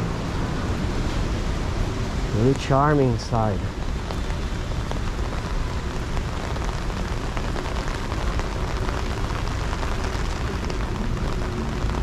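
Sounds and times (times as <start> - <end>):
rain on umbrella: 0.0 - 12.0
rain on wet pavement: 0.0 - 12.0.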